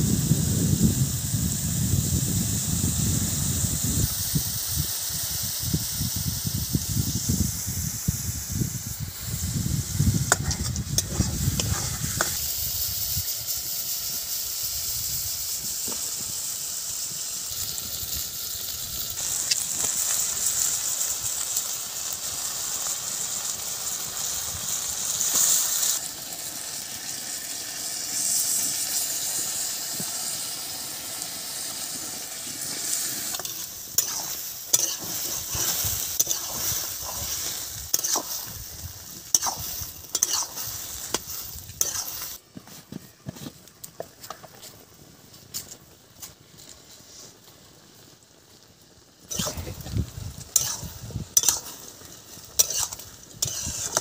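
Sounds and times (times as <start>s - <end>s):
spice paste sizzling in a wok: 0.0s - 54.0s.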